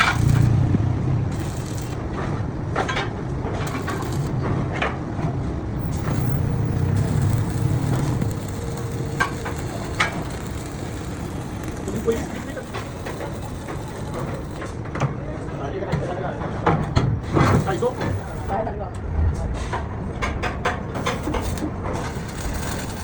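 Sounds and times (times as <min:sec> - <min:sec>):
workshop machinery rumbling: 0:00.0 - 0:23.0.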